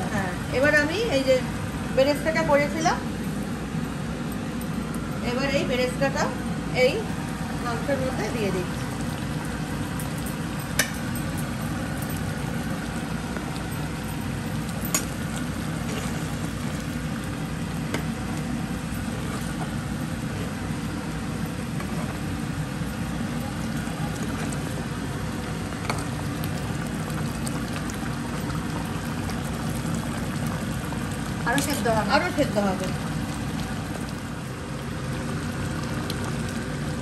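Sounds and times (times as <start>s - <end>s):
stew bubbling and sizzling: 0.0s - 37.0s.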